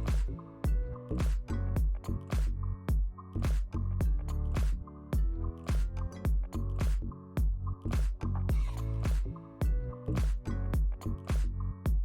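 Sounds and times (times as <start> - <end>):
electronic pop music: 0.0 - 12.0
kick drum hits: 0.1 - 12.0.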